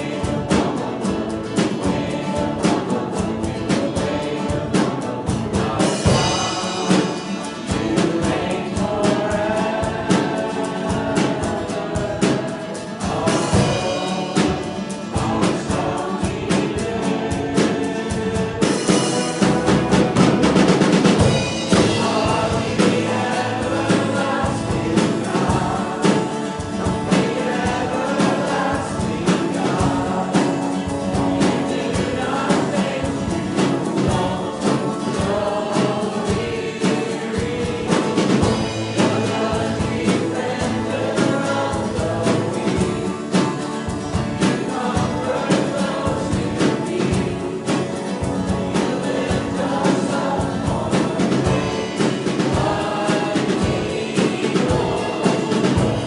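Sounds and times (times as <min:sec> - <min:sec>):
group singing worship song: 0:00.0 - 0:56.0
instruments with steady beat: 0:00.0 - 0:56.0.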